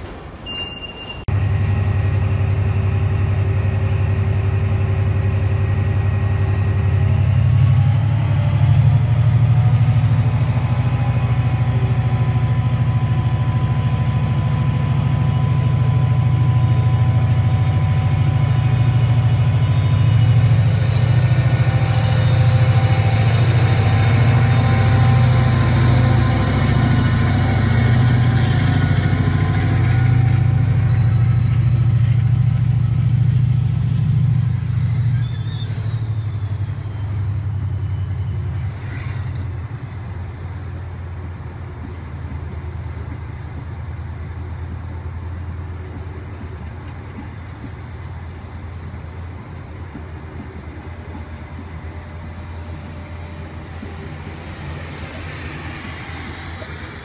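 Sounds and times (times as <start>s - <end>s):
diesel locomotive engine drone: 0.0s - 57.0s
train coaches rumbling on rails: 0.0s - 57.0s.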